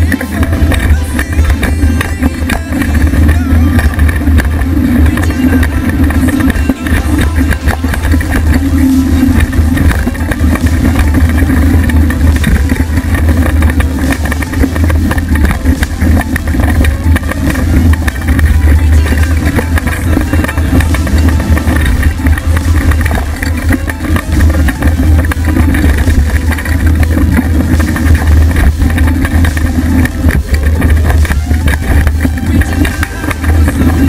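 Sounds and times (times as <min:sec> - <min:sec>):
bike rattling clicks and knocks: 0:00.0 - 0:34.0
wind and trail rumble: 0:00.0 - 0:34.0.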